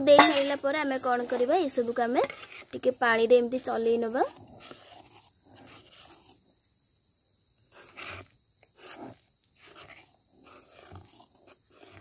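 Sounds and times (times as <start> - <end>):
spatula scraping batter in wok: 0.0 - 6.5, 7.6 - 12.0.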